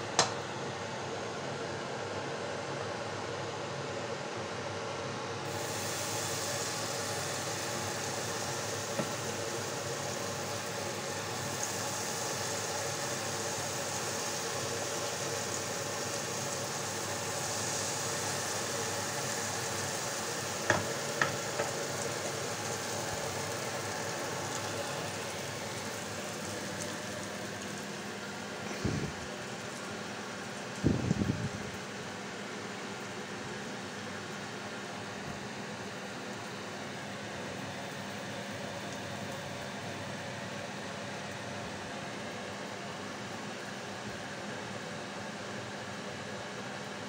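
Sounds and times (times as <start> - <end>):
batter sizzling in frying pan: 5.4 - 44.4.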